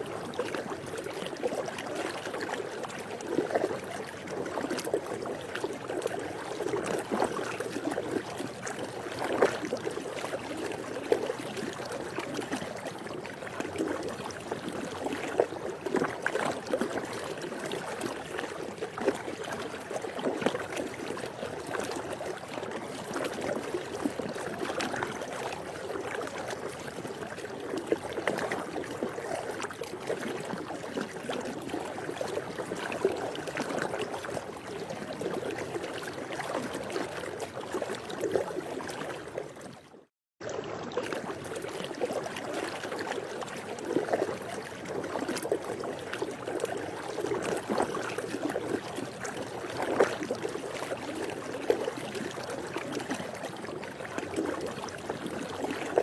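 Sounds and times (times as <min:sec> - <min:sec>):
pool water lapping and trickling: 0:00.0 - 0:56.0
water splashes: 0:00.0 - 0:56.0.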